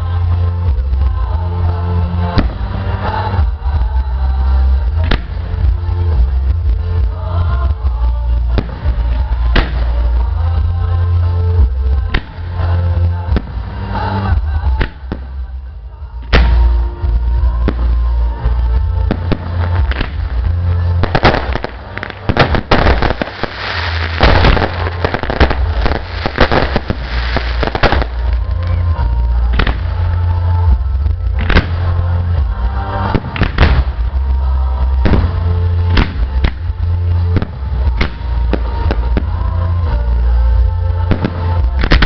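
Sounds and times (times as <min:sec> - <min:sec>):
fireworks bursting and banging: 0:00.0 - 0:42.0
loud music with heavy bass beat: 0:00.0 - 0:42.0.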